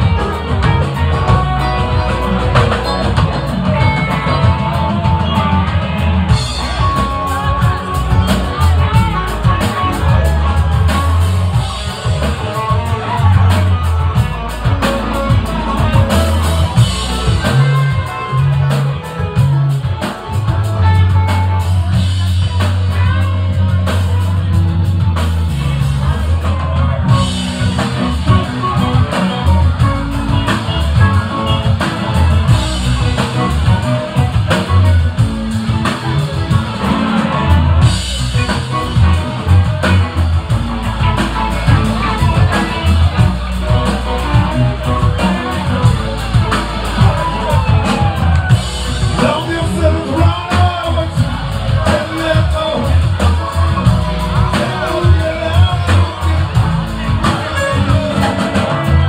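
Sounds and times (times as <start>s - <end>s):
drum kit cymbals: 0.0s - 59.0s
electric guitar: 0.0s - 59.0s
low bass line: 0.0s - 59.0s.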